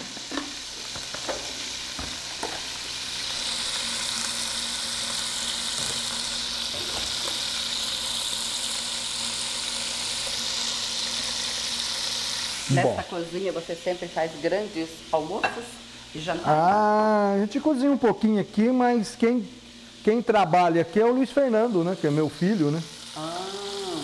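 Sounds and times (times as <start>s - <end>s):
food sizzling in a pot: 0.0s - 24.0s.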